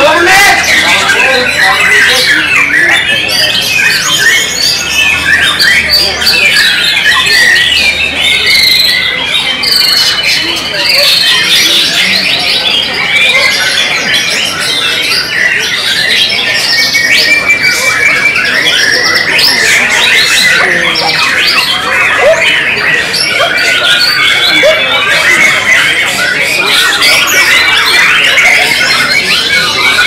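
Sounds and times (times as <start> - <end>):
other songbirds singing: 0.0 - 30.0
songbird singing: 0.0 - 30.0.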